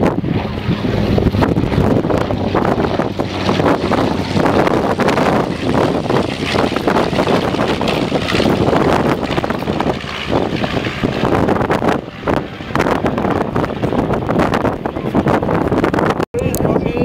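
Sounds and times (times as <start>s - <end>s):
aircraft engine noise: 0.0s - 17.0s
wind buffeting microphone: 0.0s - 17.0s.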